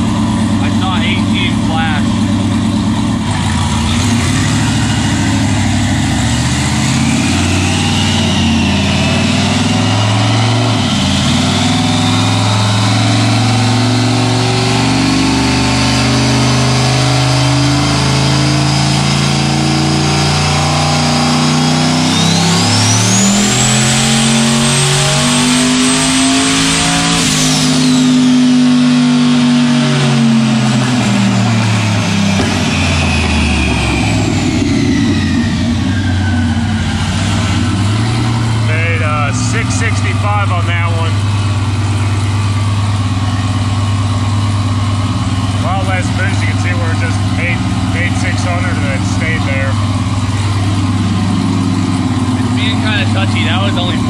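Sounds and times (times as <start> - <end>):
car engine revving: 0.0 - 54.0
turbo whine: 0.0 - 54.0.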